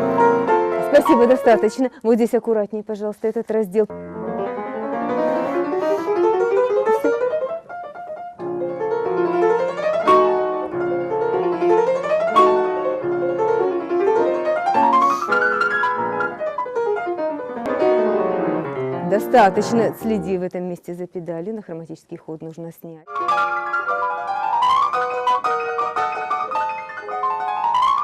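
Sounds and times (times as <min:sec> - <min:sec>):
piano runs and arpeggios: 0:00.0 - 0:01.7, 0:03.9 - 0:20.4, 0:23.1 - 0:28.0.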